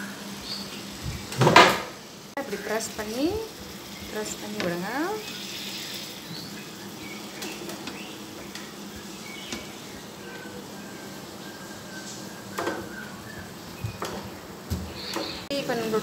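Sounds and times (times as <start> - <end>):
chicken sizzling in oil: 0.0 - 13.8.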